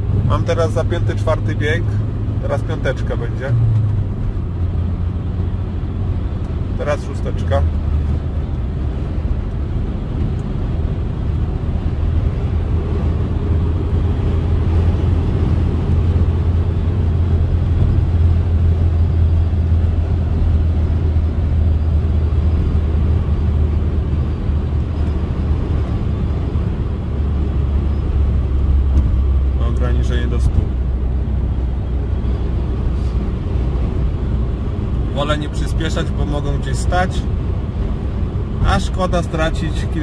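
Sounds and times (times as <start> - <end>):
car engine drone in cabin: 0.0 - 40.0
road and tyre noise: 0.0 - 40.0.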